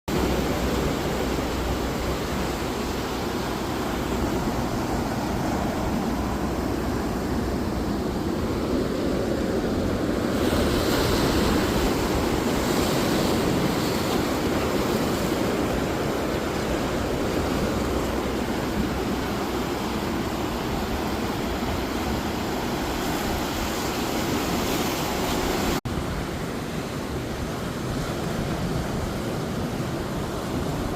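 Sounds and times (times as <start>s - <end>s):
ocean surf washing: 0.1s - 30.9s.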